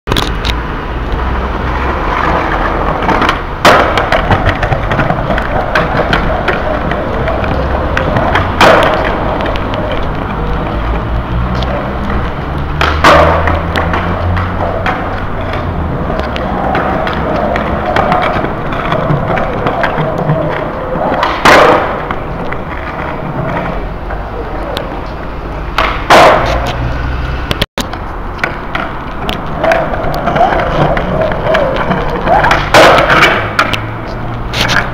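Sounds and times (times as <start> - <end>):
skateboard wheels rolling on concrete: 0.1 - 34.9
skateboard slamming down: 1.8 - 11.0, 11.6 - 23.8, 25.7 - 26.8, 28.4 - 34.0.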